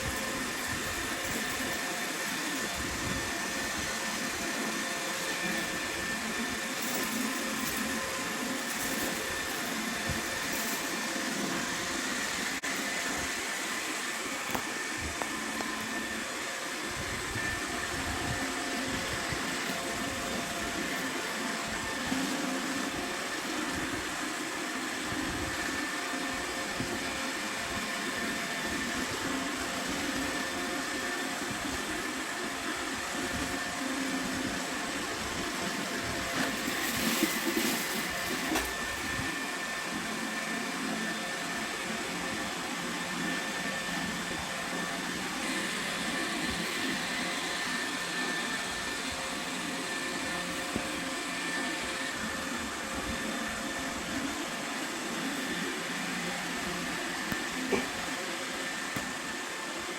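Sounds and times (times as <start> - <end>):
robot vacuum whirring: 0.0 - 59.9.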